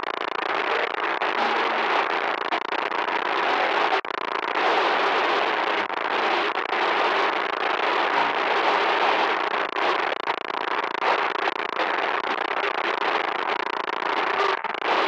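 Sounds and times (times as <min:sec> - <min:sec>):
harsh crackling static: 0:00.0 - 0:15.0.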